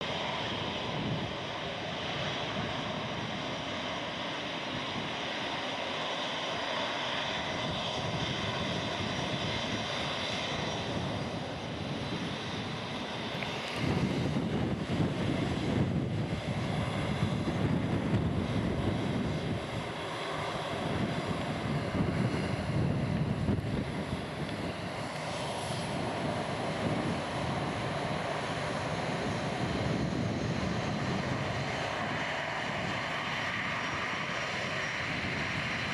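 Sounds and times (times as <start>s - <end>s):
jet engines roaring: 0.0s - 35.9s
wind buffeting microphone: 0.2s - 5.3s, 7.3s - 35.9s.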